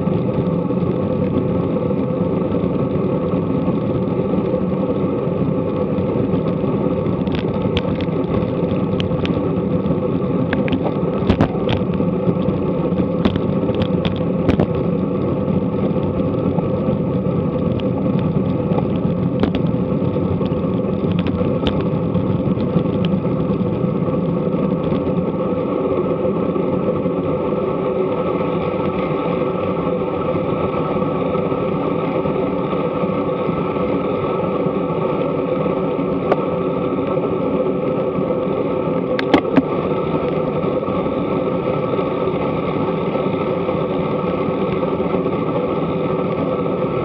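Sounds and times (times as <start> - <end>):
bicycle clicks and ticks: 0.0 - 47.0
road and wind rumble: 0.0 - 47.0.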